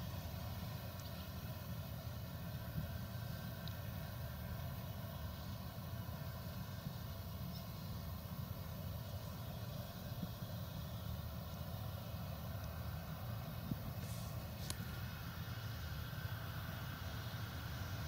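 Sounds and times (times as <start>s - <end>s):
combine harvester droning: 0.0s - 18.0s.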